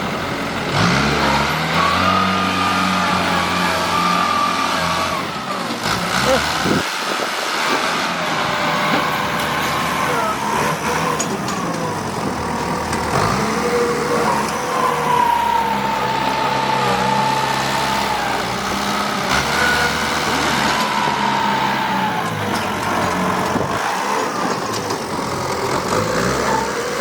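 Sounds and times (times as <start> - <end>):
heavy vehicle engine revving: 0.0 - 27.0.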